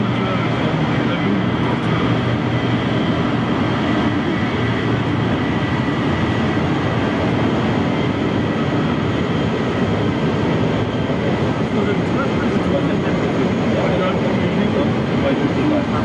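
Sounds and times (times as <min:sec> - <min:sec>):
jet engine rushing noise: 0:00.0 - 0:16.0.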